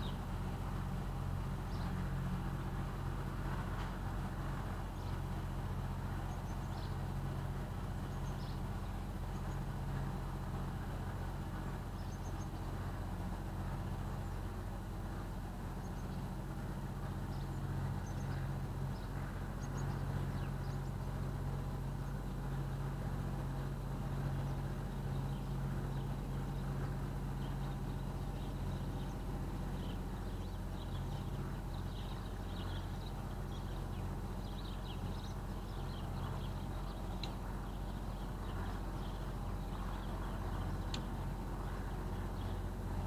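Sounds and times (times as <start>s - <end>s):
boat engine humming: 0.0s - 43.0s.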